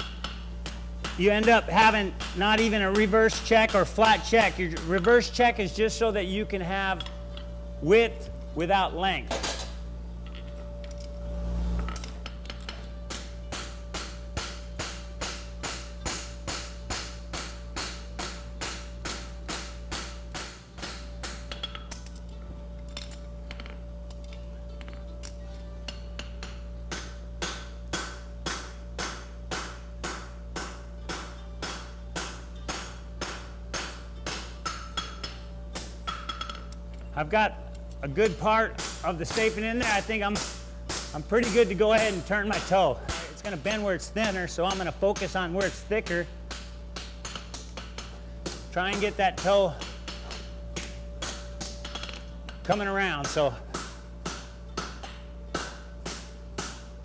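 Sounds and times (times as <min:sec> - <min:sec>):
hammer striking steel on anvil: 0:00.0 - 0:11.0, 0:11.8 - 0:22.3, 0:22.9 - 0:37.0, 0:37.8 - 0:57.0.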